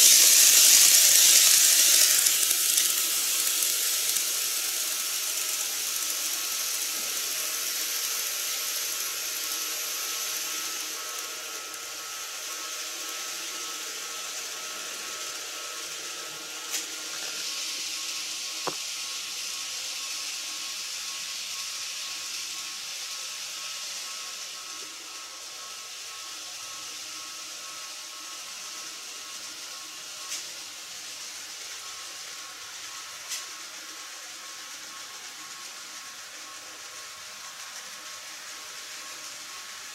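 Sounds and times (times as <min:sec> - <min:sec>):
faint motor whine: 0:00.0 - 0:39.9
model train wheels rolling: 0:00.0 - 0:39.9.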